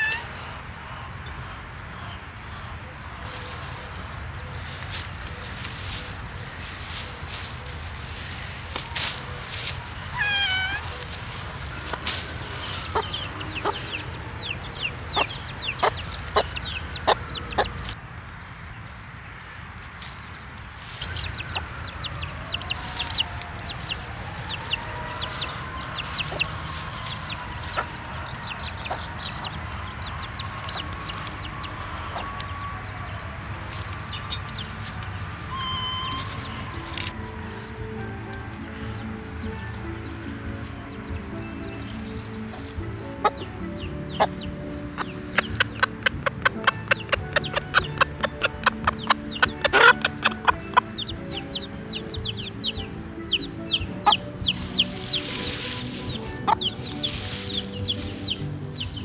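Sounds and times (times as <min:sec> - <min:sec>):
chickens clucking: 0:00.0 - 0:18.7, 0:19.7 - 0:59.0
baby chicks peeping: 0:00.0 - 0:59.0.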